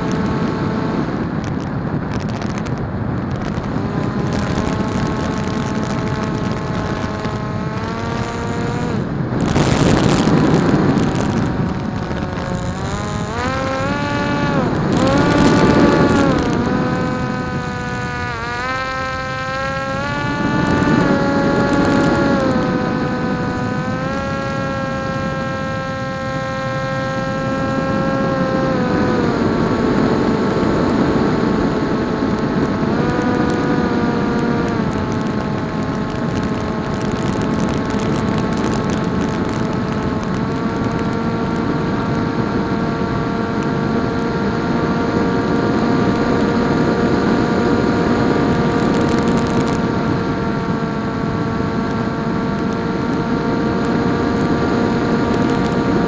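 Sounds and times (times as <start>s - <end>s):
electric motor and propeller whine: 0.0s - 56.0s.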